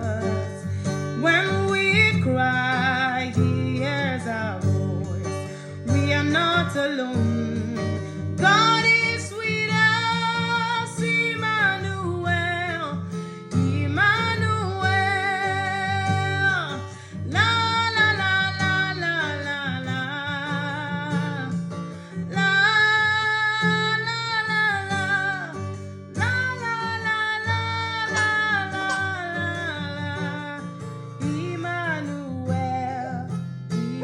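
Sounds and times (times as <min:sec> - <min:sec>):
acoustic guitar: 0:00.0 - 0:34.0.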